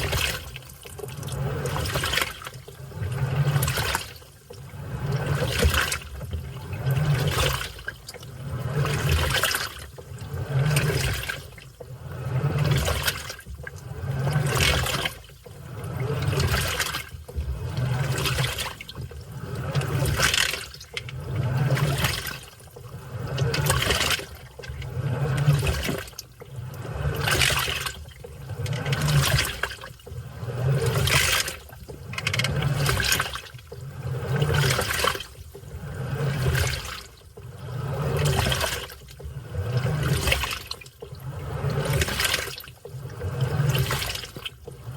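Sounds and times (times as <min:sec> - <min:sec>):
low motor hum: 0:00.0 - 0:44.9
washing machine churning water: 0:00.0 - 0:44.9.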